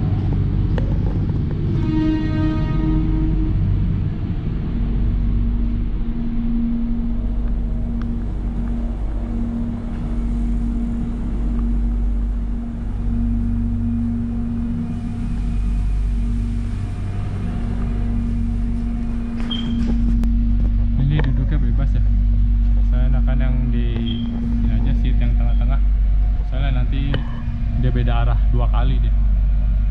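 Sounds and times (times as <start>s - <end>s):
train car humming and droning: 0.0s - 29.9s.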